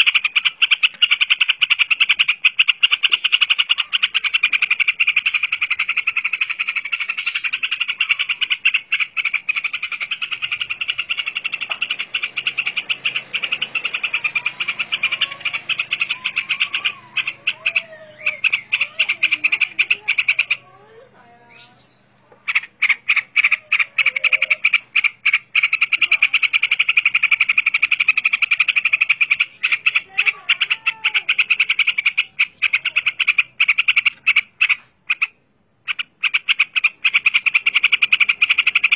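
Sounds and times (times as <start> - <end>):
rapid rattling trill: 0.0 - 20.7, 22.5 - 34.5.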